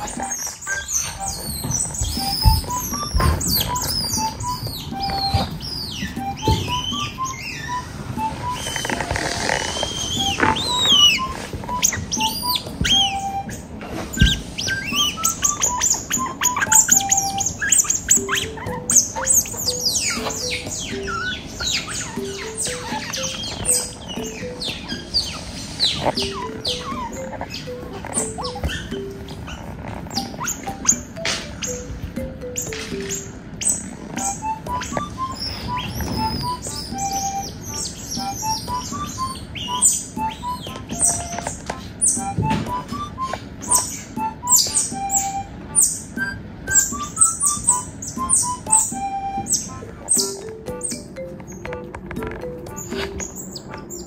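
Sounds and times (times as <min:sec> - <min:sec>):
light background melody: 0:00.0 - 0:54.0
otters chirping: 0:00.0 - 0:54.0.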